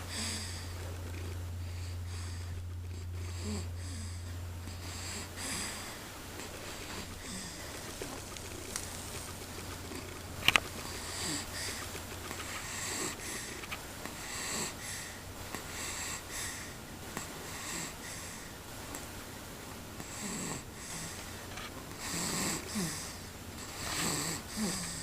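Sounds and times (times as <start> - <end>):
wheezy snoring: 0.0 - 10.2, 10.8 - 12.0, 12.6 - 18.6, 20.0 - 25.0.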